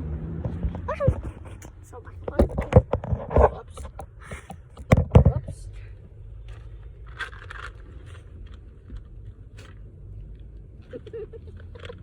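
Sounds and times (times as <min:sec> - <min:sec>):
car interior rumble: 0:00.0 - 0:12.0
scraping and rustling of handling: 0:00.5 - 0:05.8, 0:06.4 - 0:12.0.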